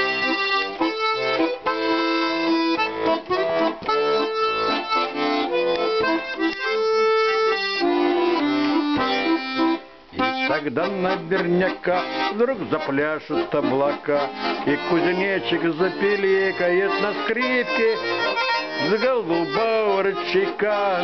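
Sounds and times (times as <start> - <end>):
button accordion playing: 0.0 - 21.0.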